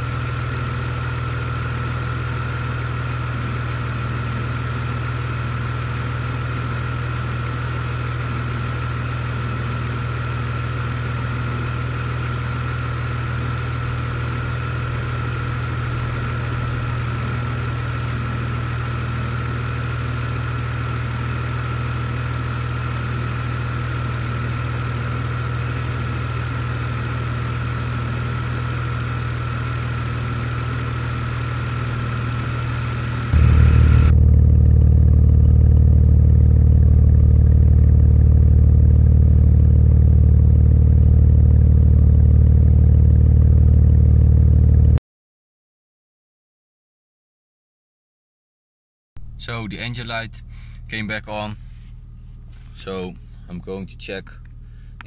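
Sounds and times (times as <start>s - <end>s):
car engine idling with misfire: 0.0s - 44.9s, 49.2s - 55.0s.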